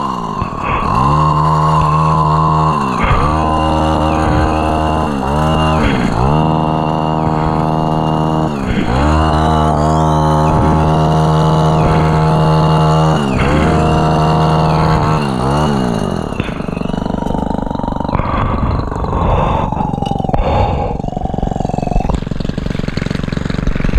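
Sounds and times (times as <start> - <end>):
hedge trimmer running: 0.0 - 23.9.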